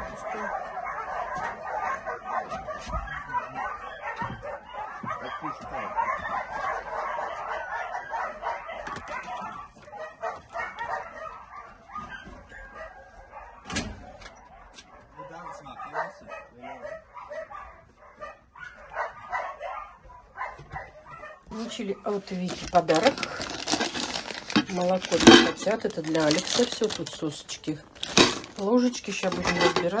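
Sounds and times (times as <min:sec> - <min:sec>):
dogs barking: 0:00.0 - 0:26.9.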